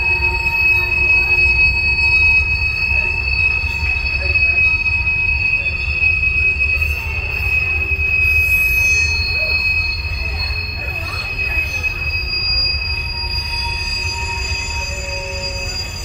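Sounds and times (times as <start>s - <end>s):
train wheels squealing: 0.0s - 16.0s.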